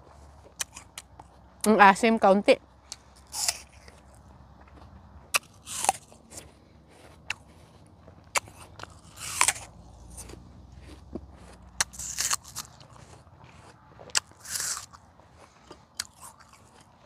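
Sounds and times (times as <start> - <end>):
wet chewing: 0.0 - 1.8, 2.8 - 17.0
apple crunching: 0.3 - 1.8, 2.9 - 17.0.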